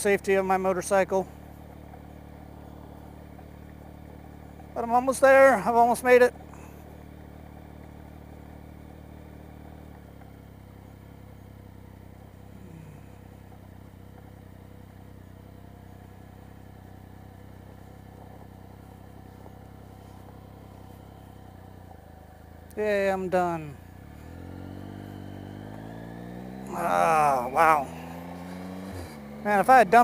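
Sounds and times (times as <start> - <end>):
motorcycle engine running at low revs: 0.0 - 30.0
tyres on gravel: 0.0 - 30.0.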